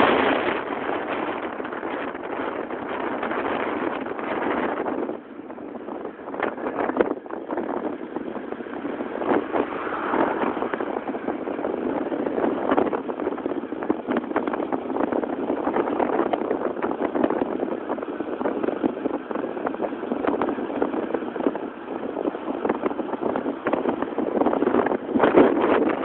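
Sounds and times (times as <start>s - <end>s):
vehicle moving at speed: 0.0s - 26.0s
wind buffeting microphone: 0.0s - 26.0s.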